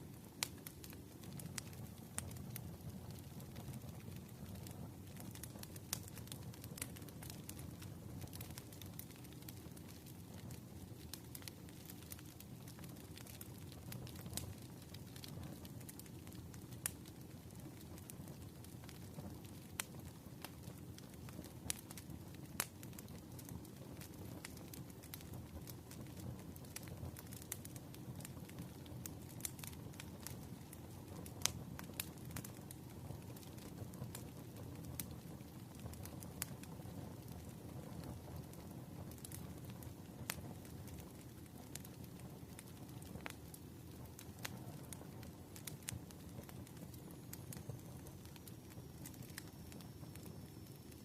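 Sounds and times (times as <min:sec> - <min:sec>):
fire crackling and popping: 0:00.0 - 0:51.0.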